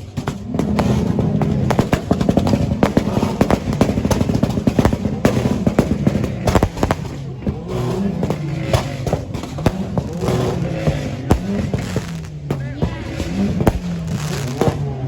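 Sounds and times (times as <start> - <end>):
fireworks bangs and cracks: 0.0 - 15.0.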